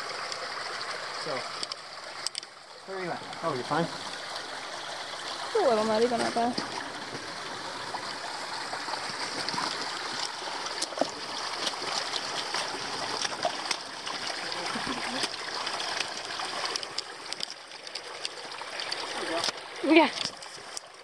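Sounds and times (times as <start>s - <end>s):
small clicks and splashes: 0.0s - 4.5s, 5.4s - 21.0s
running water: 0.0s - 21.0s.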